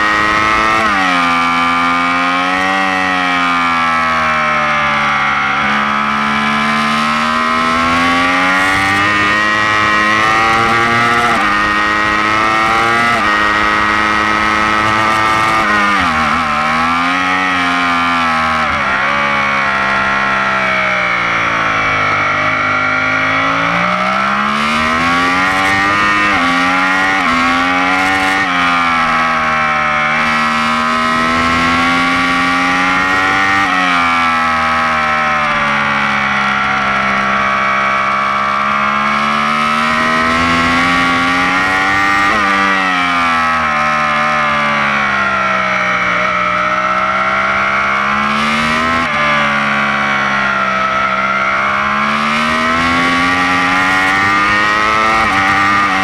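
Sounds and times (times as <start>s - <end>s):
motorcycle engine at racing pace: 0.0s - 56.0s.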